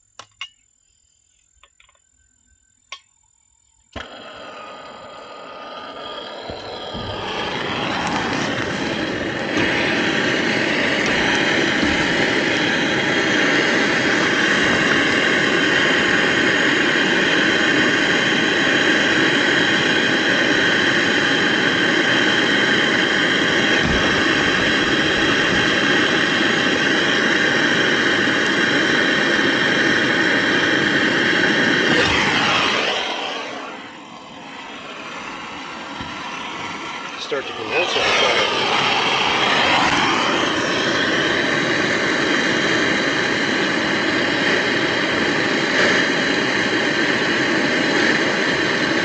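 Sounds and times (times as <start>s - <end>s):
brazing torch roaring: 3.9s - 49.0s.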